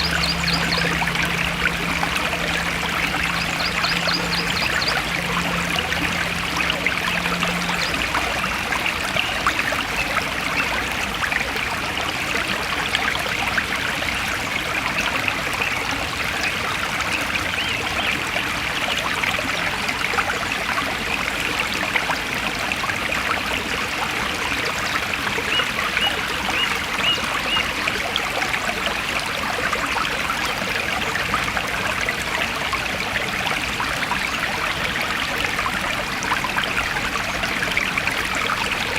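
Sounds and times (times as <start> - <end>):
stream flowing and trickling: 0.0 - 38.9.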